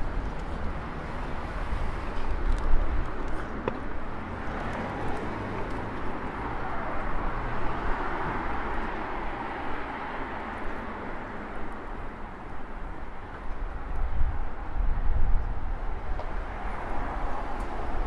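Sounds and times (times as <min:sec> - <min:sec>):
cars driving past: 0:00.0 - 0:13.8, 0:15.7 - 0:18.0.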